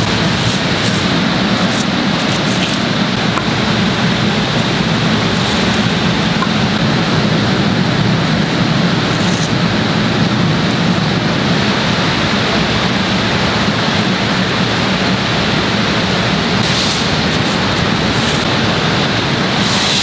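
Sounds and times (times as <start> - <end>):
low hum: 0.0 - 19.5
factory machinery rush: 0.0 - 20.0.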